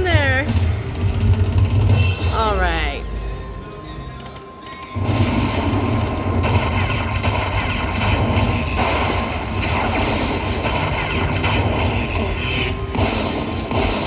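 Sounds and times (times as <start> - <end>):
slot machine game music: 0.0 - 14.0.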